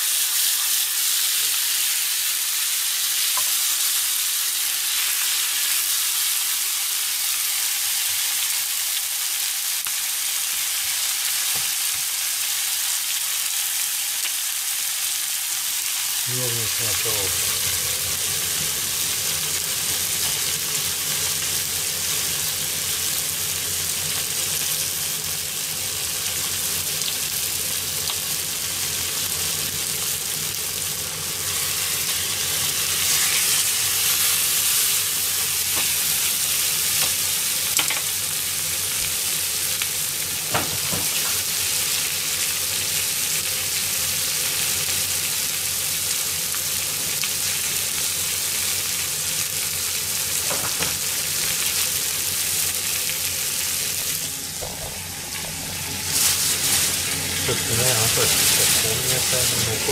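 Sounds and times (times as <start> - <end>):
chicken sizzling in a pan: 0.0 - 59.9.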